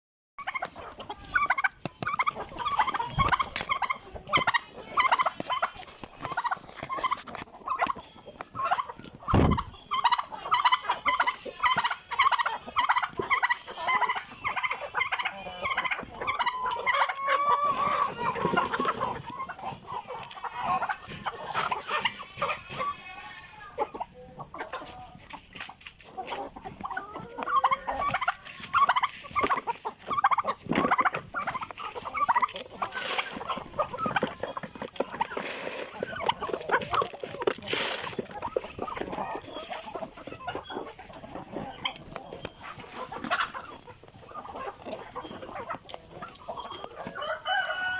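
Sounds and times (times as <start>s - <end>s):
chickens clucking: 0.4s - 47.9s.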